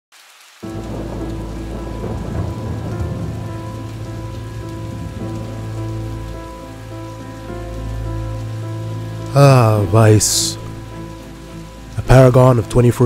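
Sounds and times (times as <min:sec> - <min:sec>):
steady rain: 0:00.1 - 0:13.0
deep thunder rumble: 0:00.6 - 0:13.0.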